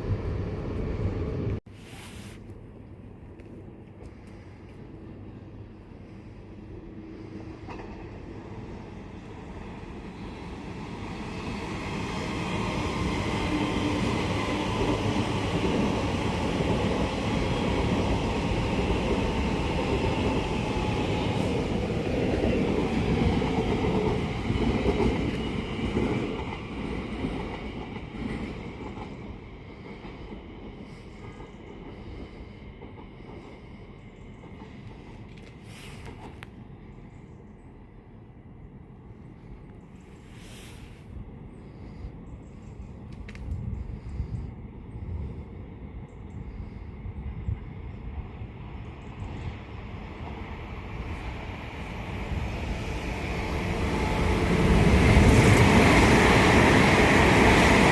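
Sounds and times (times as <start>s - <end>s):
train passing: 0.0s - 57.9s.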